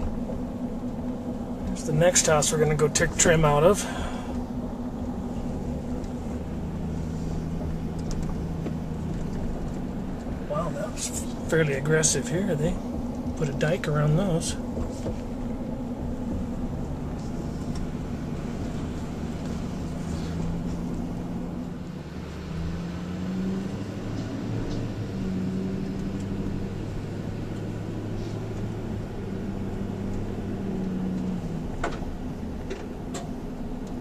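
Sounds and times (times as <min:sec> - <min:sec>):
car engine hum: 0:00.0 - 0:34.0
road noise inside car: 0:00.0 - 0:34.0.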